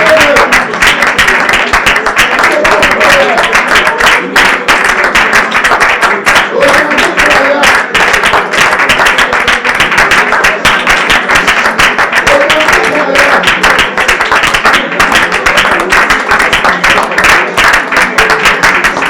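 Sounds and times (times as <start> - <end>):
congregation clapping: 0.0 - 19.0
music: 0.0 - 19.0.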